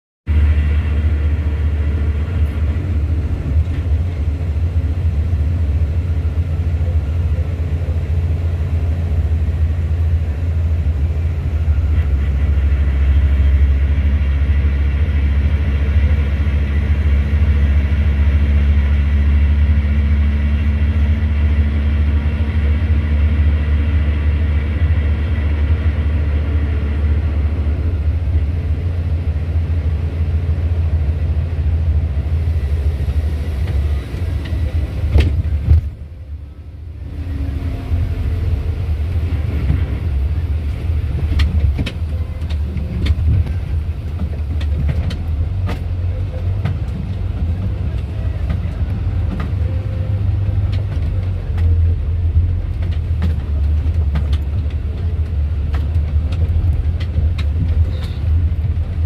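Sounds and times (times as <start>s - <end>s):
low engine rumble: 0.3s - 59.0s.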